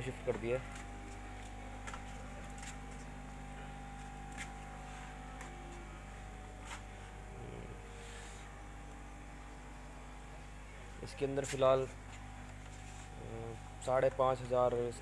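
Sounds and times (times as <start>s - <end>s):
air pump humming: 0.0s - 15.0s.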